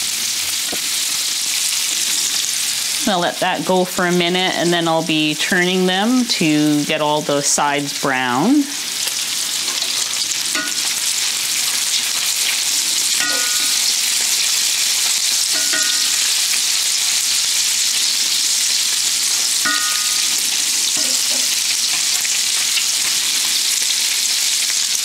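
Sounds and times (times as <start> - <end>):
meatballs sizzling in grease: 0.0 - 25.0.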